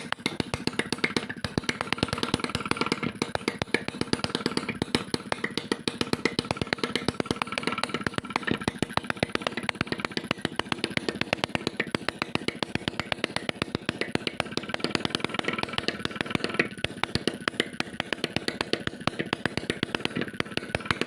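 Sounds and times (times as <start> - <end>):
two-stroke engine firing pops: 0.0 - 21.0.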